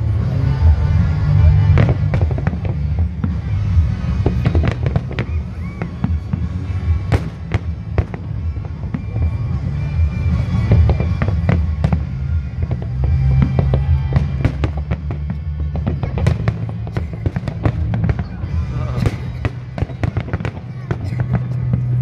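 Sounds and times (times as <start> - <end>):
fireworks bursting and crackling: 0.0 - 22.0
loud music with heavy bass: 0.0 - 22.0.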